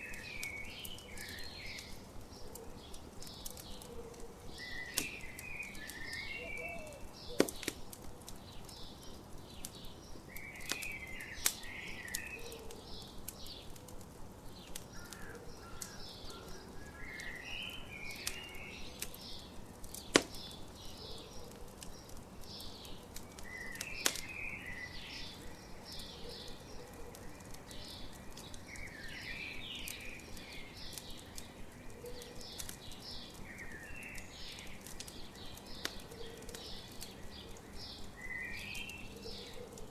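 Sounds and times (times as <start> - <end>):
campfire crackling and popping: 0.0 - 39.9
songbirds chirping: 0.0 - 39.9.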